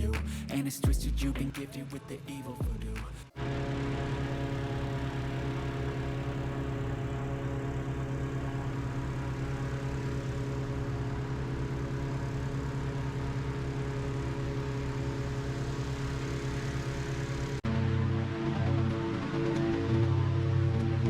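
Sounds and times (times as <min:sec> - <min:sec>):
engine running steadily: 0:02.7 - 0:21.0.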